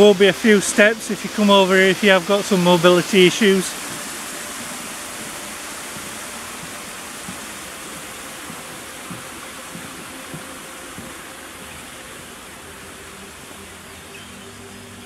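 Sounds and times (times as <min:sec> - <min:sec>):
waterfall cascading: 0:00.0 - 0:15.0.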